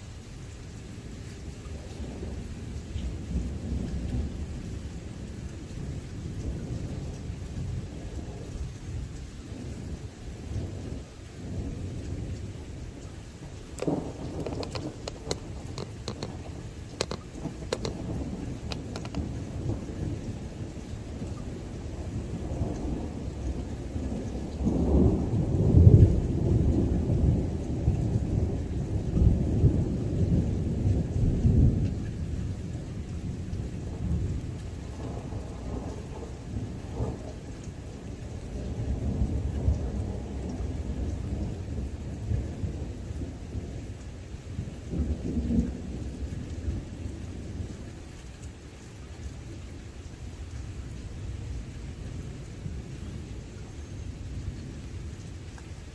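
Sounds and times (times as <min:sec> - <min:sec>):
thunder rumbling: 0:01.8 - 0:47.8.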